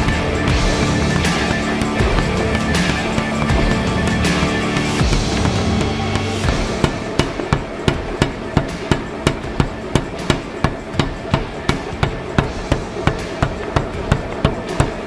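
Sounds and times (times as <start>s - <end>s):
power hammer striking hot steel: 0.0s - 15.0s.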